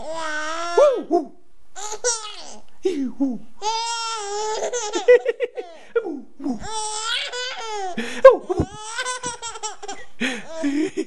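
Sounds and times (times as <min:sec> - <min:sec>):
baby laughing: 0:00.0 - 0:02.6, 0:03.6 - 0:11.0.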